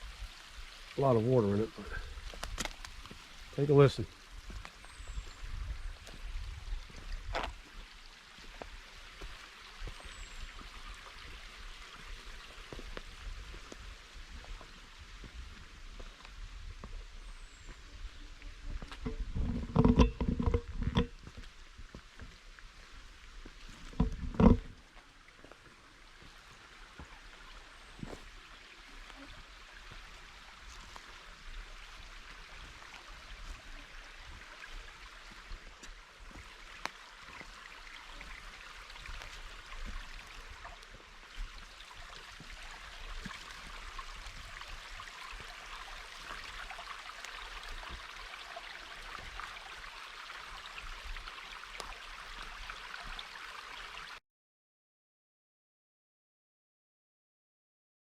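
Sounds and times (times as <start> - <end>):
shallow creek trickling: 0.0 - 54.2.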